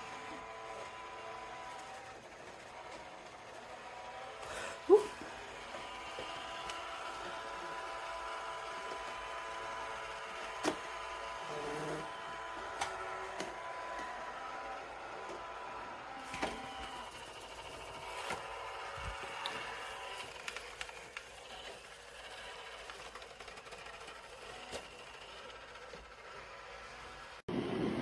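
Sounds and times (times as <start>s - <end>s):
robot vacuum motor whir: 0.0s - 28.0s.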